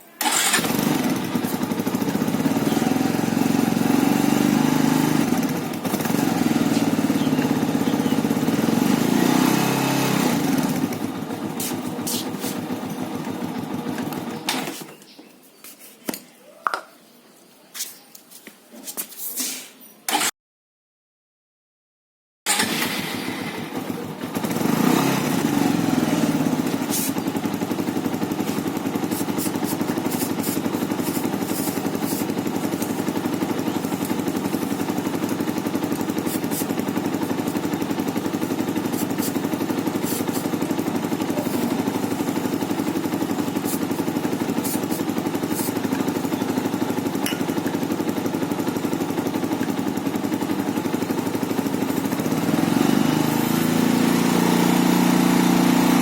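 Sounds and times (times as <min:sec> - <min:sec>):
motorcycle engine running: 0:00.2 - 0:15.0, 0:22.5 - 0:56.0.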